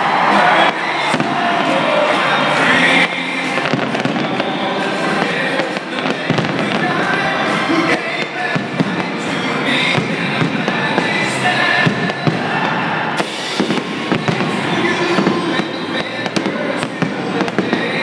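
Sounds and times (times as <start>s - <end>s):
background music: 0.0s - 18.0s
fireworks bangs and crackles: 0.0s - 18.0s.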